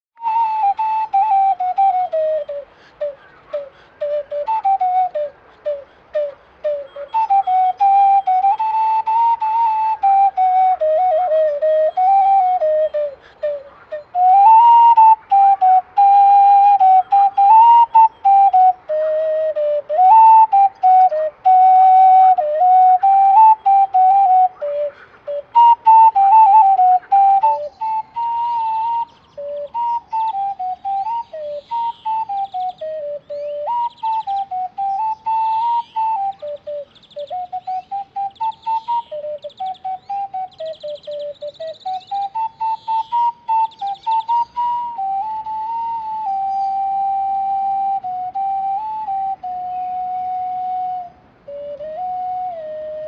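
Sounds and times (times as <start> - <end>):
ocarina melody: 0.2 - 53.0.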